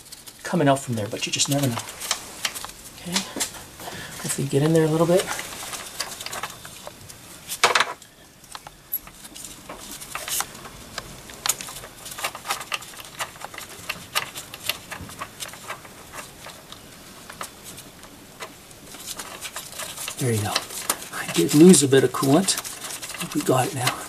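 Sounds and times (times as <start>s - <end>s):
small clicks and rustles: 0.0s - 24.0s.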